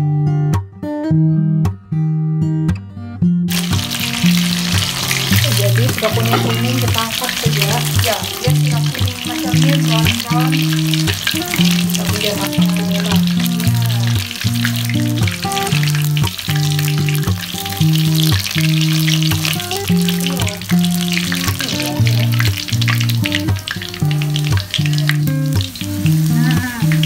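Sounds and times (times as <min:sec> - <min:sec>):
chicken deep-frying in oil: 0:03.5 - 0:27.0
slow background music: 0:03.9 - 0:27.0.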